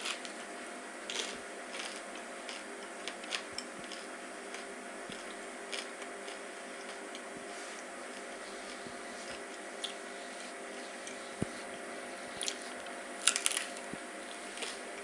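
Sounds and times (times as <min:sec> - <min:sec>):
chewing crispy taco crunches: 0:00.0 - 0:15.0
faint steady hum: 0:00.0 - 0:15.0.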